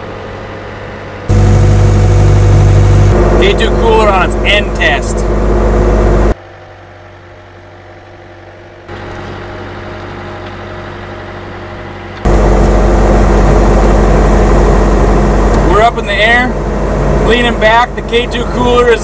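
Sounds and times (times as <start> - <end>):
skid steer engine running: 1.2 - 19.0.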